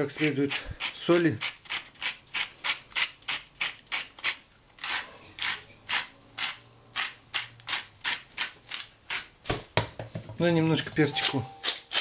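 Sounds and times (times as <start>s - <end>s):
salt shaker rattling: 0.0s - 9.8s, 10.4s - 12.0s.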